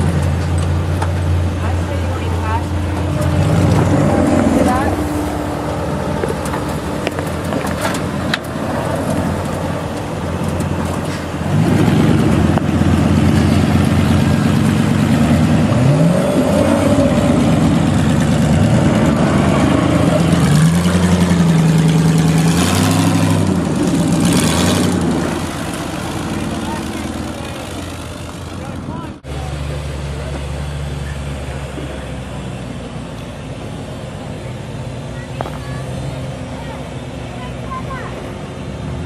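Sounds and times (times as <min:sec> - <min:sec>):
off-road vehicle engine revving: 0:00.0 - 0:39.0.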